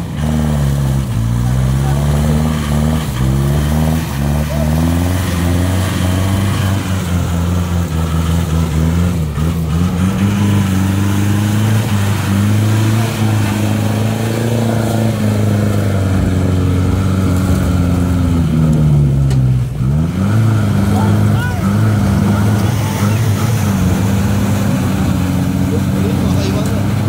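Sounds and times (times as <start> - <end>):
engine revving hard: 0.0 - 27.0
wheels spinning through mud: 0.0 - 27.0.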